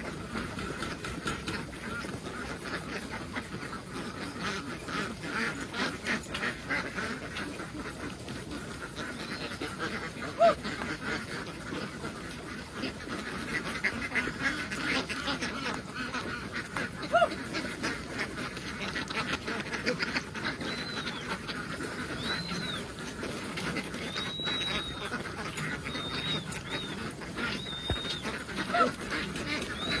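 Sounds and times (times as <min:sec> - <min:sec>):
flock of ducks quacking: 0:00.0 - 0:30.0
loud duck calls: 0:00.0 - 0:30.0.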